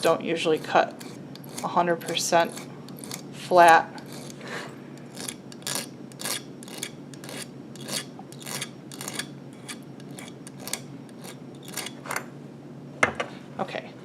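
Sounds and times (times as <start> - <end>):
hand file rasping on wire: 0.0 - 4.4, 5.0 - 12.0.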